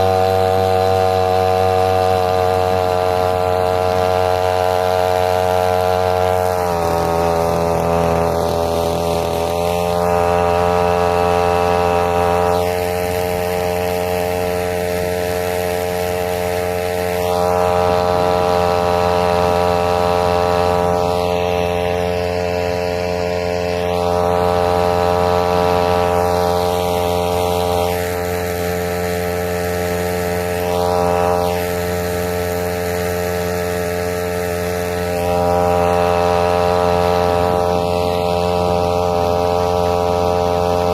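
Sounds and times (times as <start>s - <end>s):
small outboard motor running: 0.0s - 40.9s.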